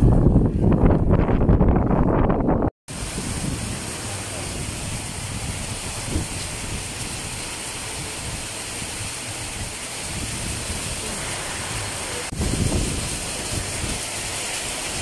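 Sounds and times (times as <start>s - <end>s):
heavy rain: 2.9s - 15.0s.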